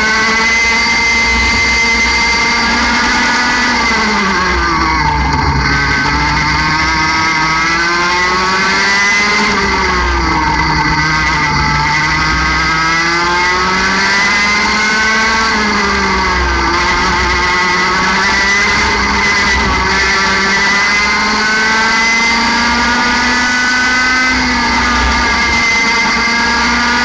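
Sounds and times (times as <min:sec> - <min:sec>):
kart engine at high revs: 0:00.0 - 0:27.0.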